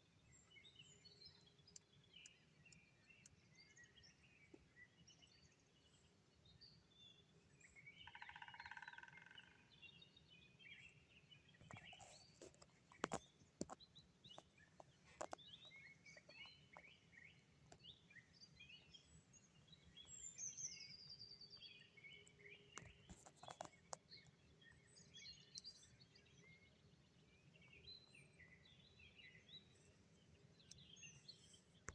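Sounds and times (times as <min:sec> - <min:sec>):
songbirds chirping and singing: 0:00.1 - 0:31.9.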